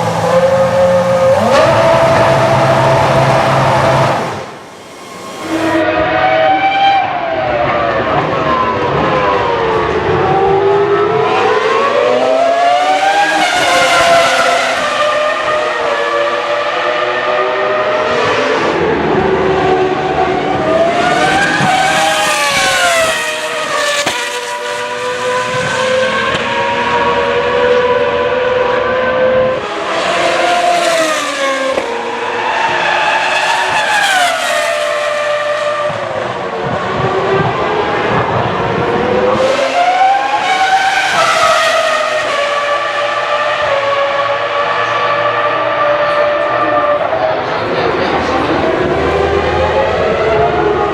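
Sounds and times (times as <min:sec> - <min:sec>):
racing car engine at high revs: 0:00.0 - 0:50.9.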